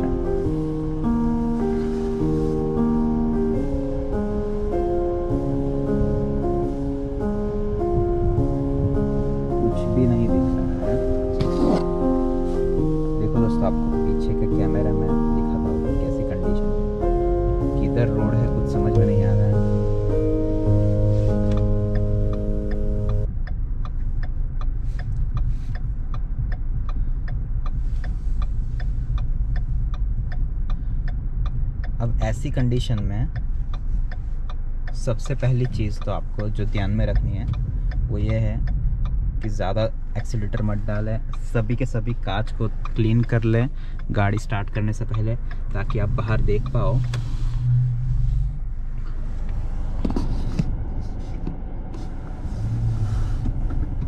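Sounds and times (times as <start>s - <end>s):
car engine idling: 0.0s - 54.0s
turn signal ticking: 0.0s - 54.0s.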